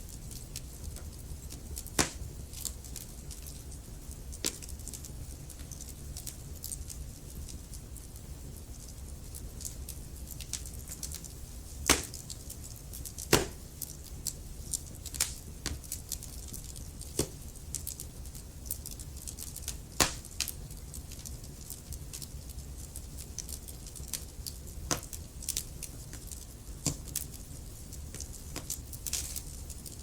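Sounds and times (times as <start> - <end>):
fire popping: 0.0 - 30.0
logs crackling in a fireplace: 0.0 - 30.0.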